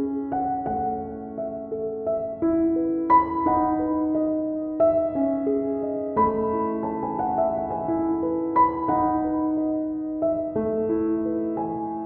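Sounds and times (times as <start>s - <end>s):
slow piano-like keyboard music: 0.0s - 12.0s.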